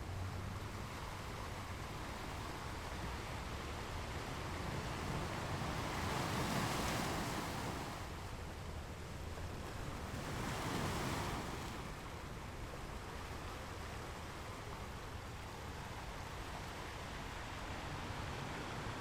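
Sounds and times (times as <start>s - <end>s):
ocean waves washing in: 1.6s - 12.3s, 13.2s - 19.0s.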